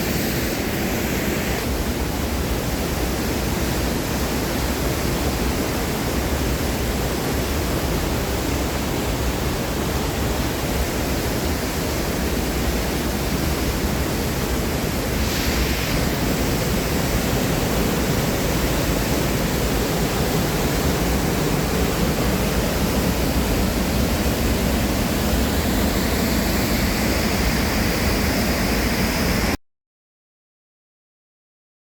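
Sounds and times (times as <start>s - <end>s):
waterfall rushing: 0.0s - 29.6s.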